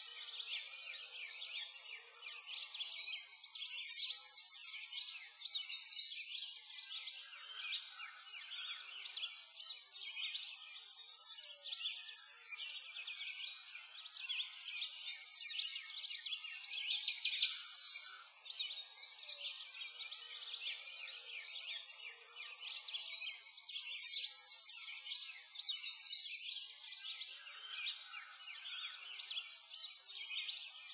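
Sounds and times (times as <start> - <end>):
small songbirds chirping: 0.0 - 30.9.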